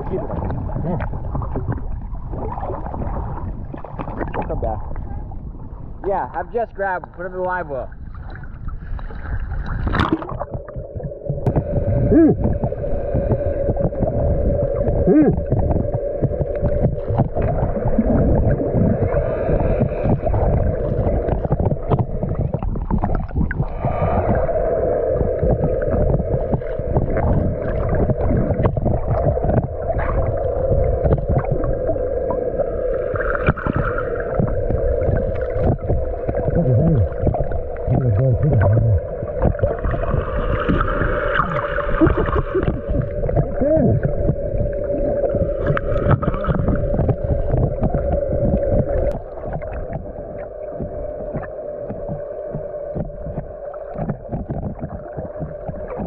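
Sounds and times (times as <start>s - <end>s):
water rushing and bubbling: 0.0s - 56.0s.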